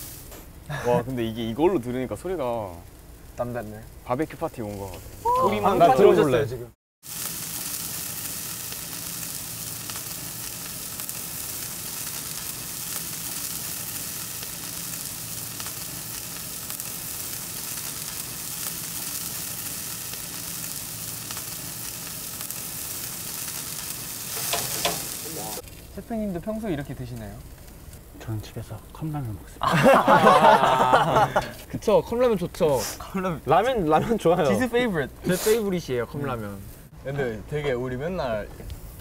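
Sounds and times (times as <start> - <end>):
steak sizzling on a grill: 0.0 - 39.0.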